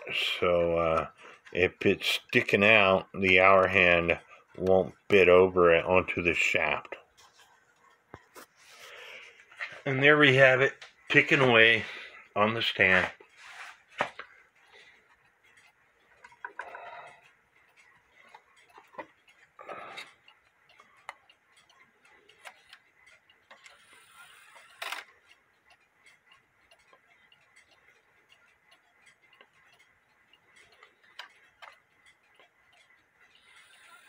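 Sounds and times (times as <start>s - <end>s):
wall clock ticking faintly: 0.0s - 34.0s.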